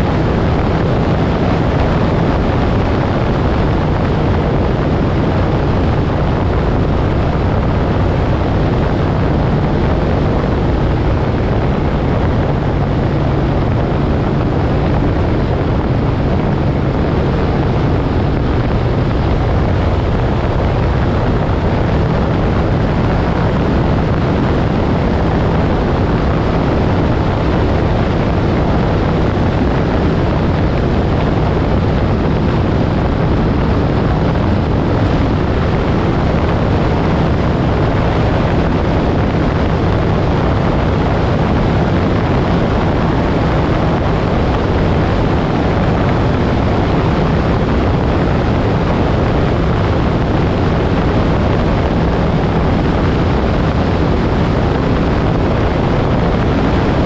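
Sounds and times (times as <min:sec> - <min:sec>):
motorcycle engine cruising: 0:00.0 - 0:57.0
wind on microphone: 0:00.0 - 0:57.0.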